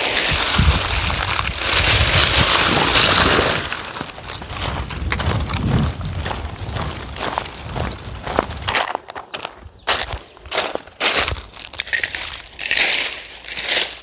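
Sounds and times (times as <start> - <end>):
dry plant stems crackling: 0.0 - 14.0
footsteps crunching on gravel: 0.0 - 14.0.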